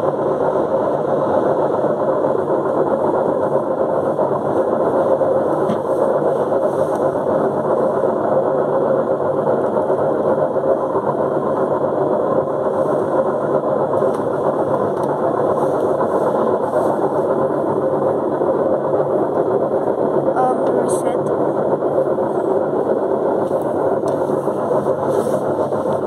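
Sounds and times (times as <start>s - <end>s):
washing machine hum: 0.0s - 26.0s.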